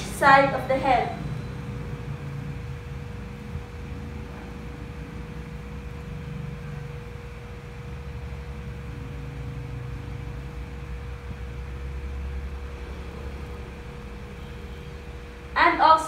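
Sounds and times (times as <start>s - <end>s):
faint steady tone: 0.0s - 16.0s
low room hum: 0.0s - 16.0s.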